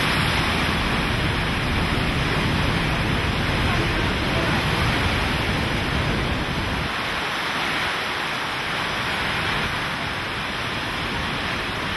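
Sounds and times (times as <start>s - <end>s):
strong wind and driving rain: 0.0s - 11.9s
wind buffeting microphone: 0.0s - 11.9s.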